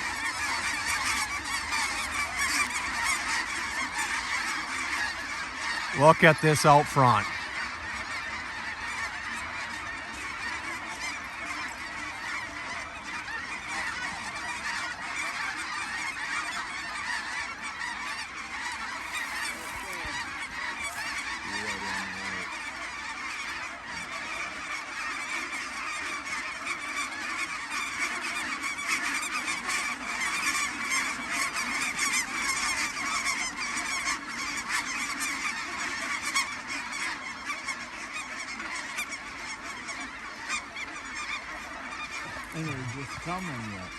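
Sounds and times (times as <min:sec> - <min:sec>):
flock of geese honking: 0:00.0 - 0:43.9.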